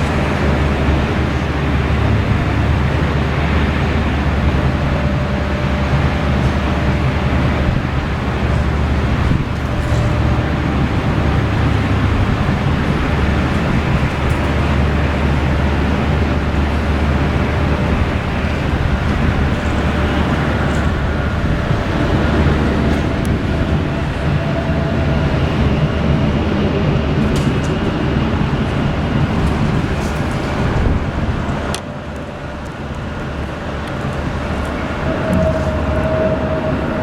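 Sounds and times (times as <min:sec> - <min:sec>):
aircraft engines rumbling: 0:00.0 - 0:37.0.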